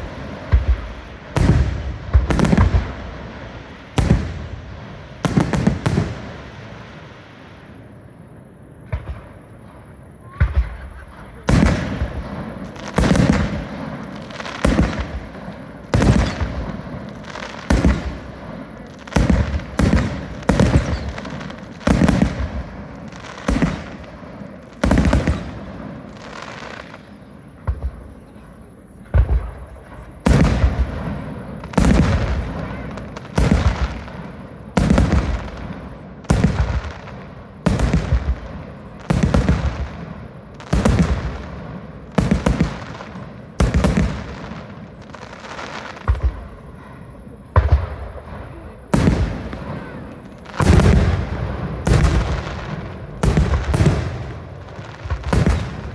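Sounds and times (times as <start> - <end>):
fireworks bangs with echo: 0.0 - 55.9.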